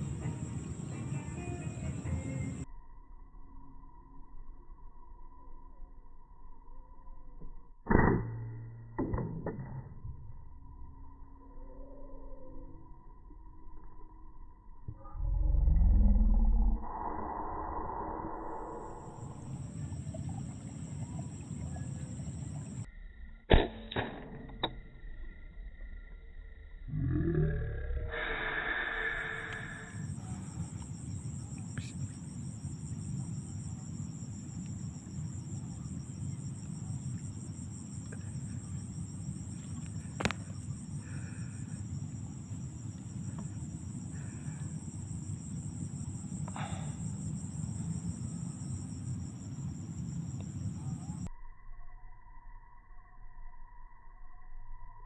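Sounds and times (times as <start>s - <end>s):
insects trilling: 0.0s - 7.4s, 10.3s - 23.5s, 24.4s - 55.0s.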